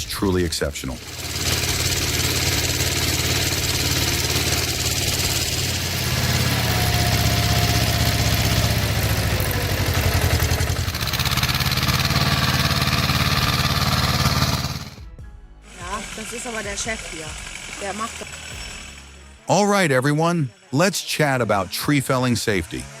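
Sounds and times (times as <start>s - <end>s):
tractor engine running: 0.0s - 15.0s, 15.8s - 19.5s.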